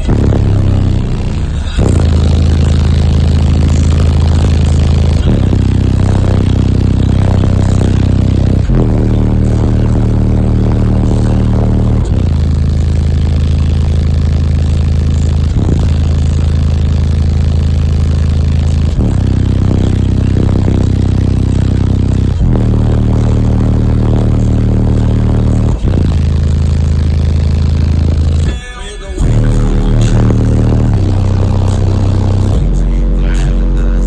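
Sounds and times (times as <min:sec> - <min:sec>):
deep subwoofer bass notes: 0:00.0 - 0:34.0.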